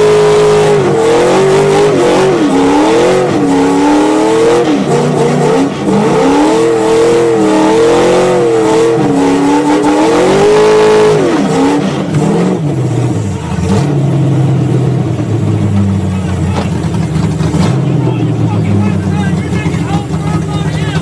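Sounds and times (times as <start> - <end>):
engine revving hard: 0.0 - 15.8, 17.1 - 21.0.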